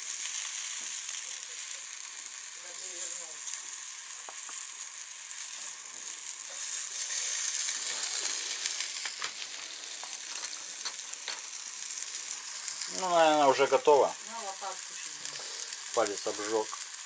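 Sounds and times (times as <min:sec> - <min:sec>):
fish sizzling in a pan: 0:00.0 - 0:17.0
oil popping and crackling: 0:00.0 - 0:17.0.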